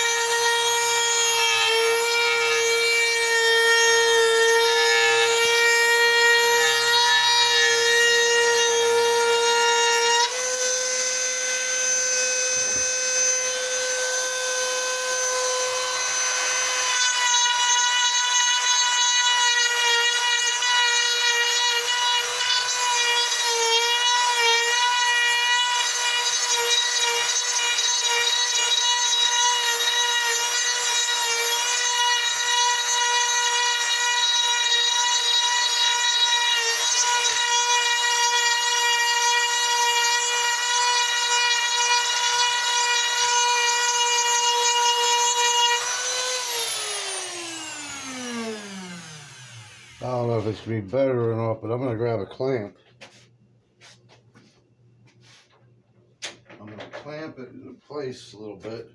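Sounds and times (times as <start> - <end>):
rotary tool cutting wood: 0.0 - 51.1.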